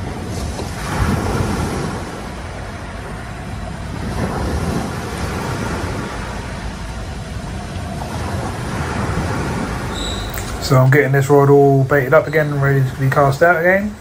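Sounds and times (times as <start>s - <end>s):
surf washing onto beach: 0.0s - 14.0s
wind rumble on microphone: 0.0s - 14.0s.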